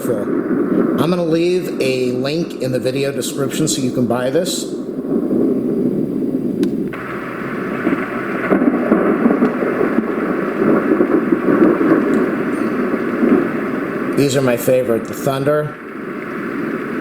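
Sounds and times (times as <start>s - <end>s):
rain hiss: 0.0s - 17.0s
thunder rumble: 0.0s - 17.0s.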